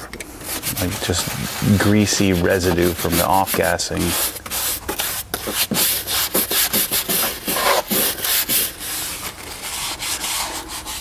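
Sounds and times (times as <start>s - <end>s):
brush scrubbing leather: 0.4s - 11.0s.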